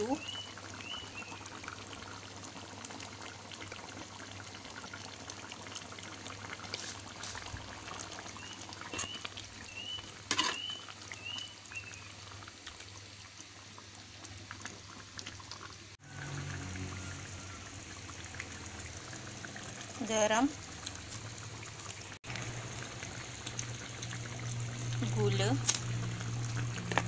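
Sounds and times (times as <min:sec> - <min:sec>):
stew bubbling and crackling in pan: 0:00.0 - 0:27.0.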